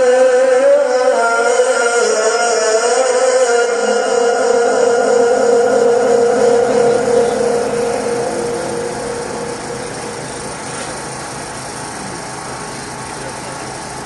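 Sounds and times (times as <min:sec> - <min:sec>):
person chanting a held note: 0:00.0 - 0:11.8
steady background hiss: 0:00.0 - 0:14.0.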